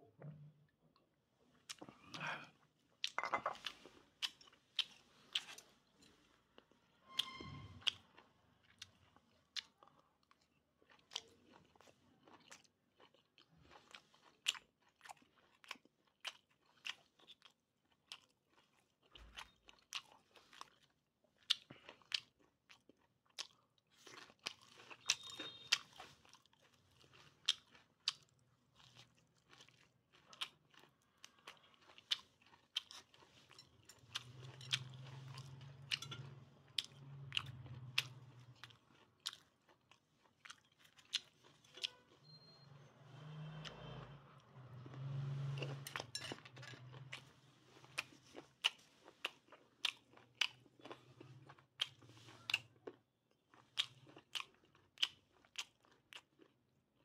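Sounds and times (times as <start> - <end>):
chewing and crunching meat: 7.7 - 42.3, 43.2 - 57.0.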